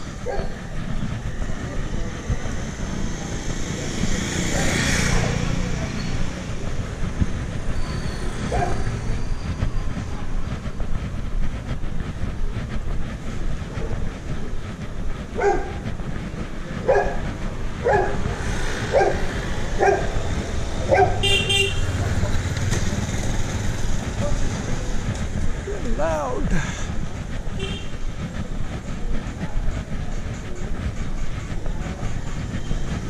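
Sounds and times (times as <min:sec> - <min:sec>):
passing vehicles rumbling: 0:00.0 - 0:33.0.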